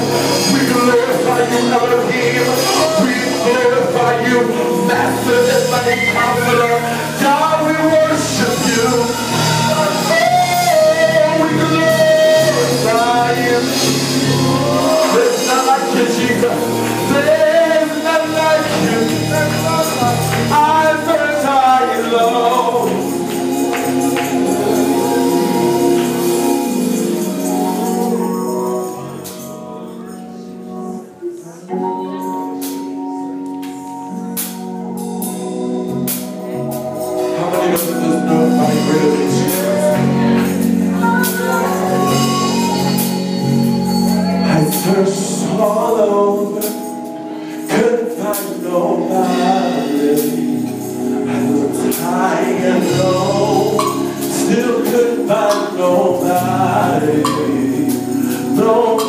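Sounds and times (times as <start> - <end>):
man singing: 0.0 - 32.9, 36.2 - 59.0
held chords: 0.0 - 59.0.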